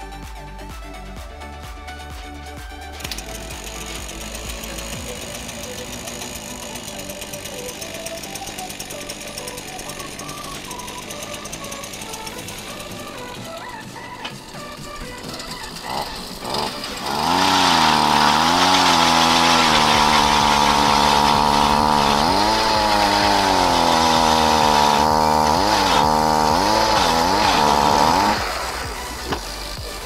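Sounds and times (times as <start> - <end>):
power ice auger motor revving: 1.4 - 30.0.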